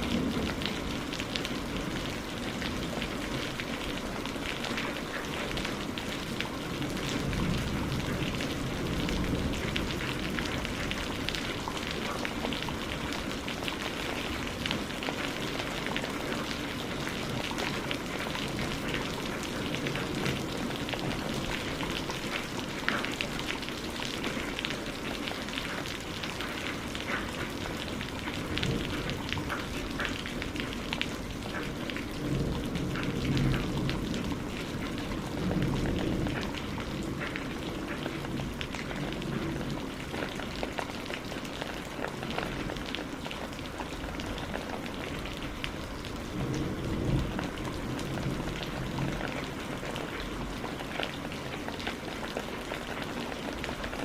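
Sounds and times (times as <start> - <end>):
low rain rumble: 0.0 - 54.0
rain drops clicking: 0.0 - 54.0.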